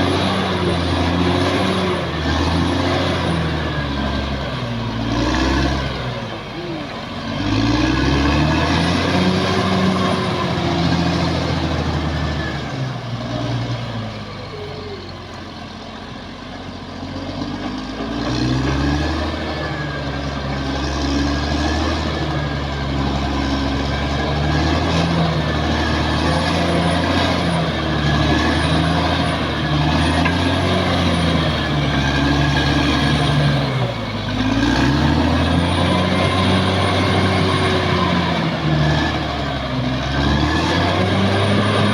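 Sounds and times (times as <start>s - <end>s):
bulldozer diesel engine under load: 0.0s - 41.9s.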